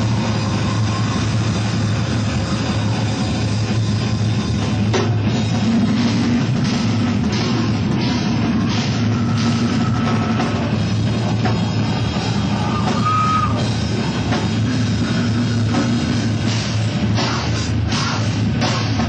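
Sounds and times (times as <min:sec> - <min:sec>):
grindcore band playing live: 0:00.0 - 0:19.0.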